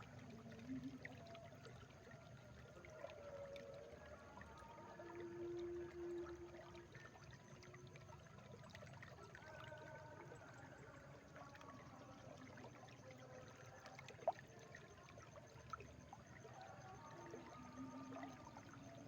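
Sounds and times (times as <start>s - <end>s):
water trickling and gurgling: 0.0s - 19.0s.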